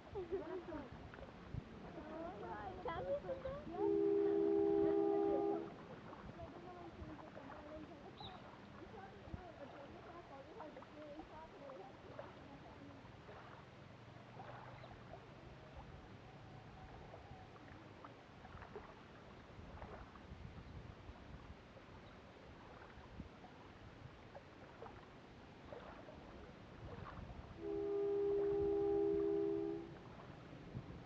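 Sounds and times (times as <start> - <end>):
outdoor background noise: 0.0 - 31.0
water lapping against rocks: 0.2 - 15.9, 17.0 - 20.4, 21.2 - 31.0.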